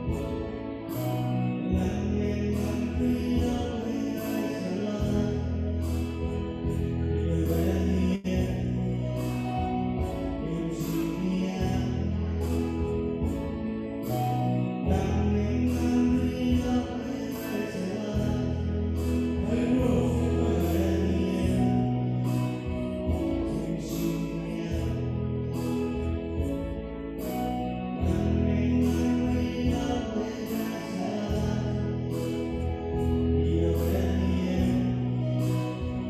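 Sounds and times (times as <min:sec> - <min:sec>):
gospel singing: 0:00.0 - 0:26.8, 0:27.6 - 0:36.0
electronic keyboard with beat: 0:00.0 - 0:36.0.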